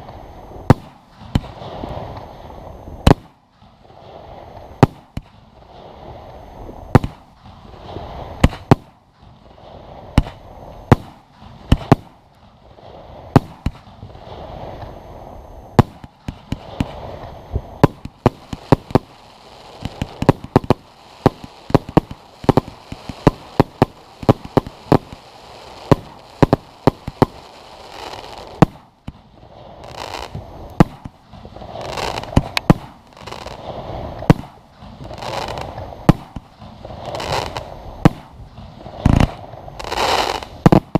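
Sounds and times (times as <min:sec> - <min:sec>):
bright hiss: 0:00.0 - 0:40.9
fireworks bursting with sharp bangs: 0:00.0 - 0:40.9
steady wash of noise: 0:00.0 - 0:40.9.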